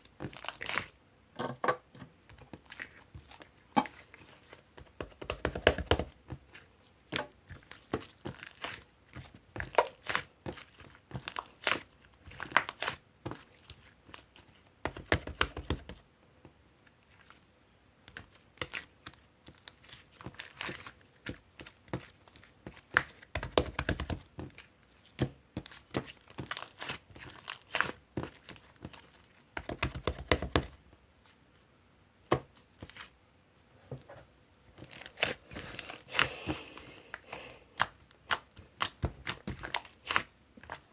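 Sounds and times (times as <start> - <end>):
crinkling handling sounds: 0.0 - 1.0, 1.9 - 5.2, 5.8 - 14.8, 16.7 - 29.8, 30.6 - 33.2, 33.8 - 40.9.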